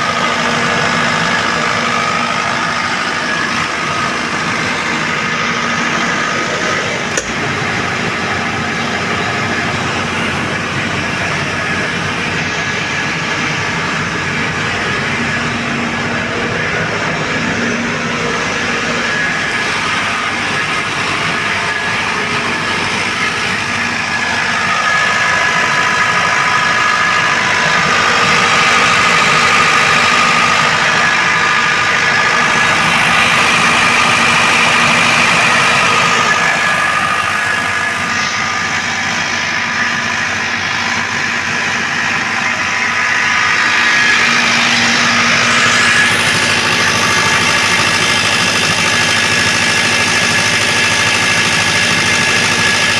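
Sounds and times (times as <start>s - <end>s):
diesel generator engine drone: 0.0s - 52.9s
high whine: 0.0s - 52.9s.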